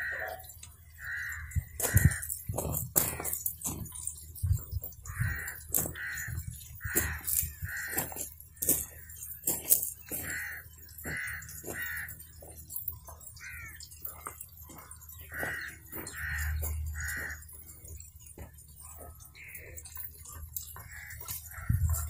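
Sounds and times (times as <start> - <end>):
crow cawing: 0.0 - 3.9, 5.0 - 22.0.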